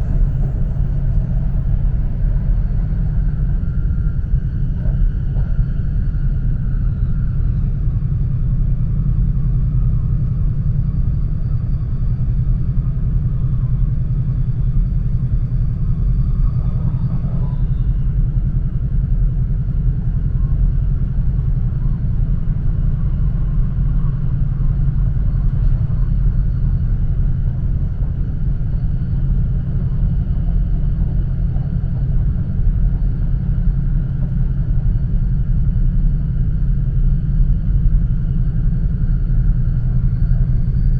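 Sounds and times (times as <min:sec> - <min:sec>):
train rumble from inside cabin: 0:00.0 - 0:40.9.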